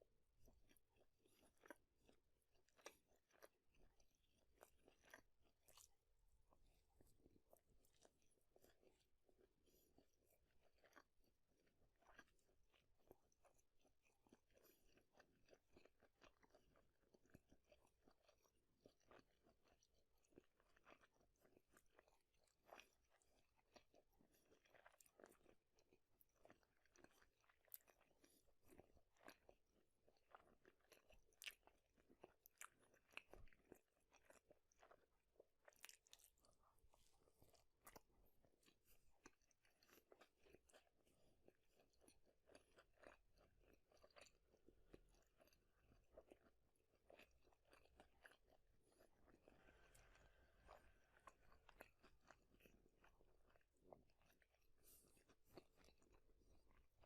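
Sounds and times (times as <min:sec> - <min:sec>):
person chewing food: 0:00.4 - 0:57.0.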